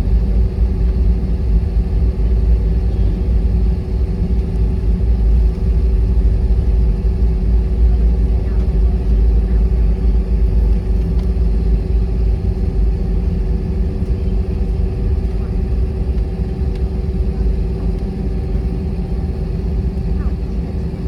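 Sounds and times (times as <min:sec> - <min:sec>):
airliner cabin engine rumble: 0:00.0 - 0:21.0
constant droning hum: 0:00.0 - 0:21.0.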